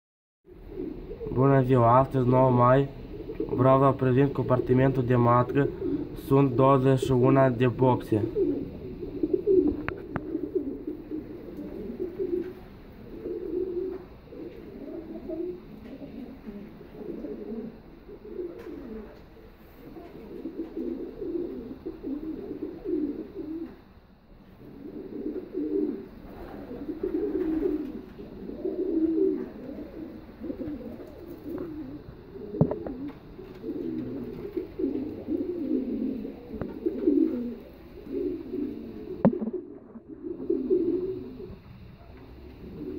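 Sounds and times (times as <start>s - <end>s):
pigeons cooing: 0.5s - 42.9s.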